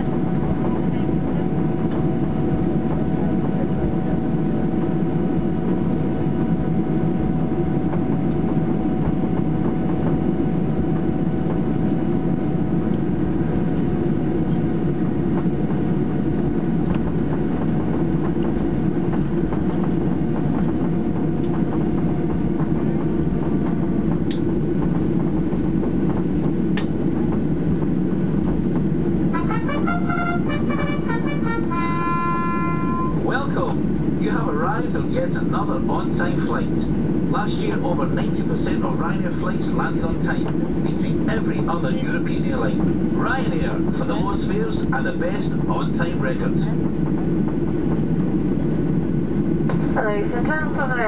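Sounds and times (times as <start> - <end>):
airplane cabin low rumble: 0.0 - 51.0
faint engine whine: 0.0 - 51.0.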